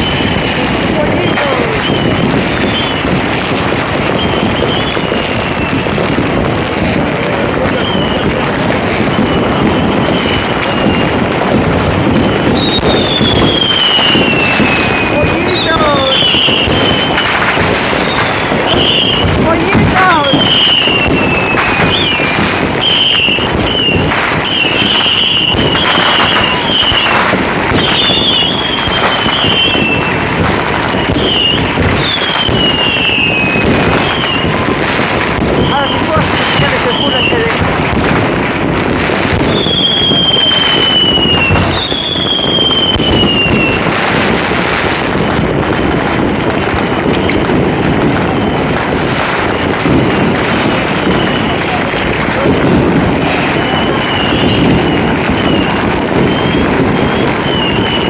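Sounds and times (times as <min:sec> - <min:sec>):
fireworks crackling and banging: 0:00.0 - 0:58.0
high fireworks whistles: 0:00.0 - 0:58.0.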